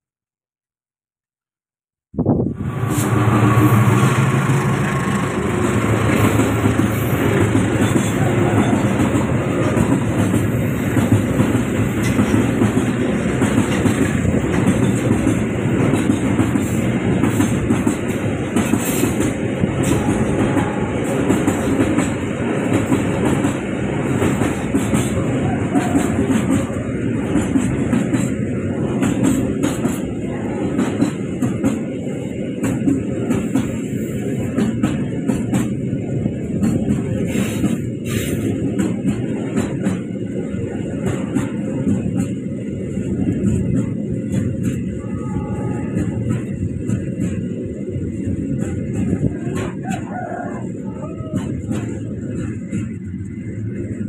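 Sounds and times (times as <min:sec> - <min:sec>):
train wheels rumbling on rails: 0:02.2 - 0:54.0
wheels clacking over rail joints: 0:02.8 - 0:35.8, 0:41.0 - 0:50.1, 0:51.3 - 0:54.0.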